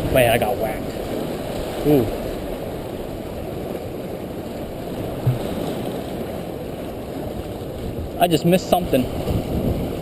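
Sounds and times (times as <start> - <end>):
waves washing over rocks: 0.0 - 10.0
wind buffeting microphone: 0.0 - 10.0.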